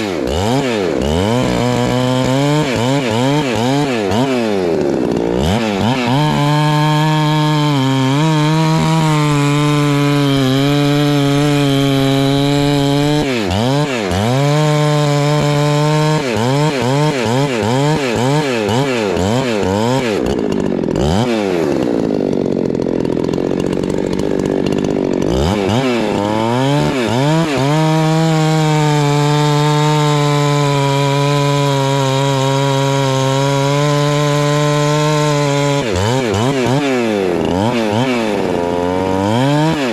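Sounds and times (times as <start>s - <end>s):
chainsaw at full throttle: 0.0s - 39.9s.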